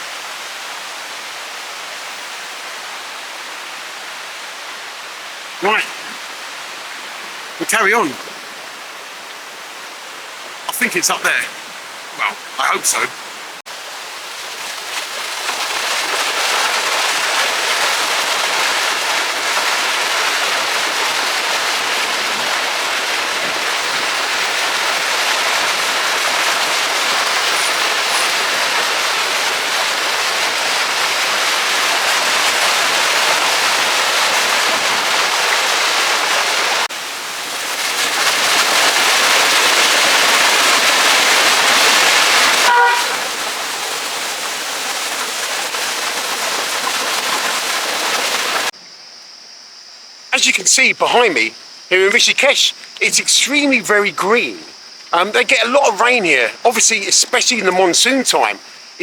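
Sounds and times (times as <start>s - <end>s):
mountain river rushing: 0.0s - 48.7s, 50.4s - 59.0s.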